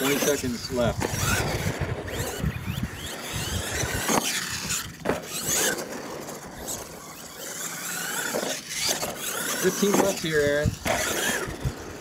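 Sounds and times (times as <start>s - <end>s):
toy truck motor whining: 0.0s - 12.0s
tyres scrabbling on dirt: 0.0s - 12.0s.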